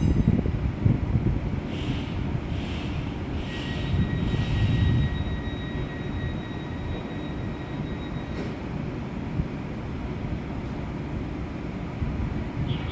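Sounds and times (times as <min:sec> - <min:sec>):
train wheels rumbling on tracks: 0:00.0 - 0:12.9.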